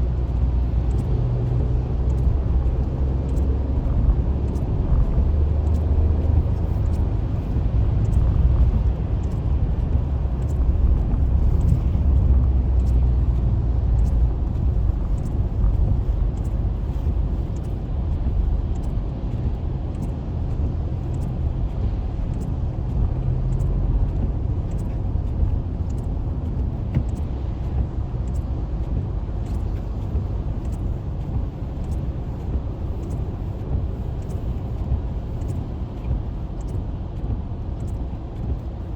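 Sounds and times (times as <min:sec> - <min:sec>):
engine and tyres on wet road: 0:00.0 - 0:38.9
faint light ticks: 0:00.0 - 0:38.9.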